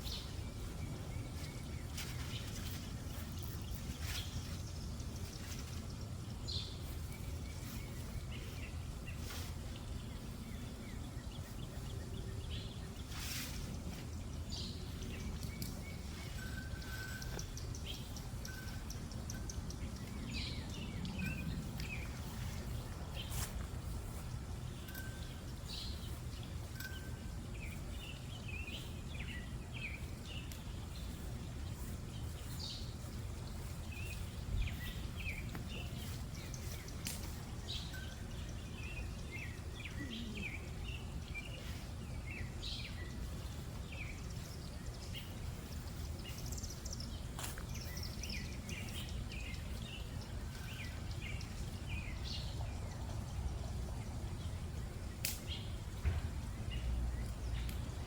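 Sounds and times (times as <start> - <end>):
low outdoor rumble: 0.0 - 58.0
small birds chirping: 0.0 - 58.0.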